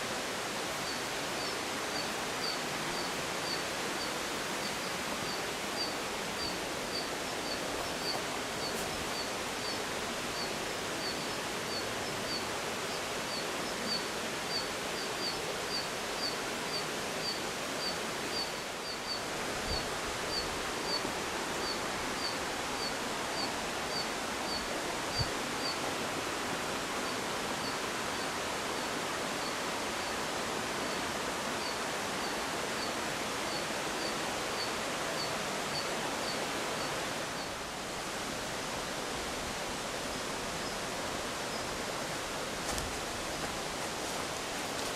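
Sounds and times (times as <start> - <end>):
mountain stream rushing: 0.0 - 44.9.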